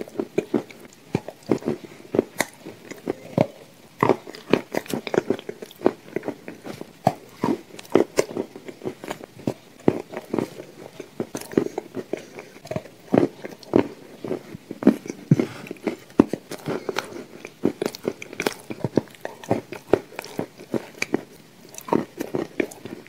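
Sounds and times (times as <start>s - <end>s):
biting and chewing cookie: 0.0s - 23.0s.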